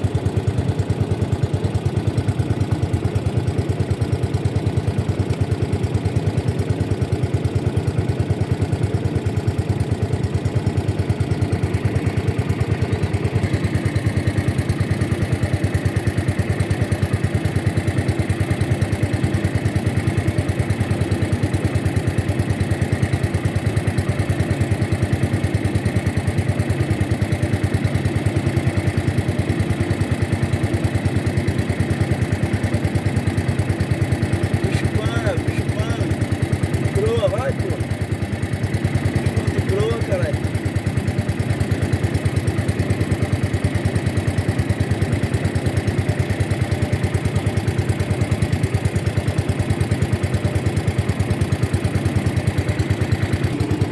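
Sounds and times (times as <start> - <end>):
boat motor chugging: 0.0 - 53.9.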